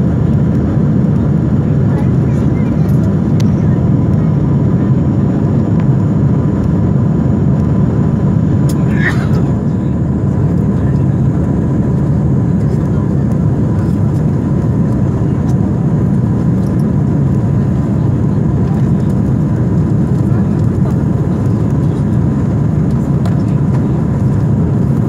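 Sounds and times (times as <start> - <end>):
jet engine low rumble: 0.0 - 25.0.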